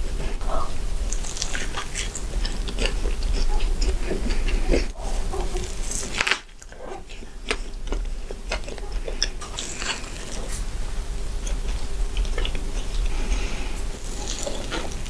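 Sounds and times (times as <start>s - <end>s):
biting a burger: 0.1s - 15.0s
chewing with wet mouth clicks: 0.3s - 15.0s.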